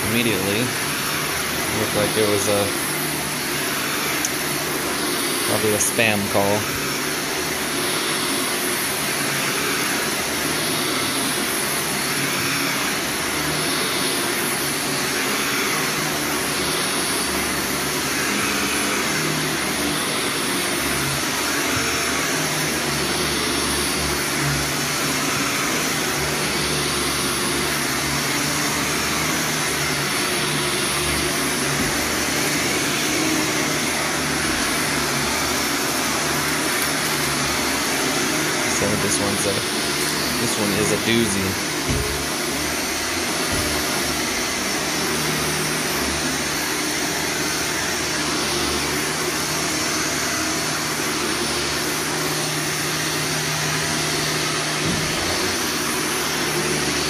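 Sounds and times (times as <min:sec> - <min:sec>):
vacuum cleaner running over carpet: 0:00.0 - 0:57.0.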